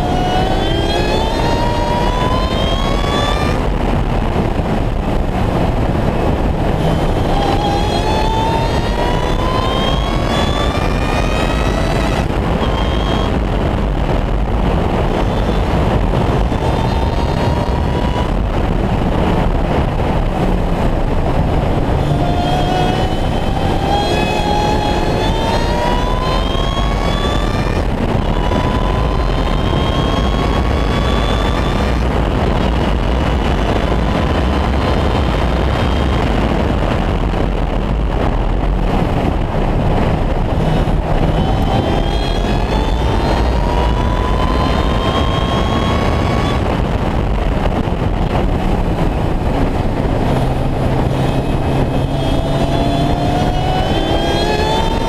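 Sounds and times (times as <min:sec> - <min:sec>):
car engine pulling hard: 0:00.0 - 0:55.0
wind buffeting: 0:00.0 - 0:55.0.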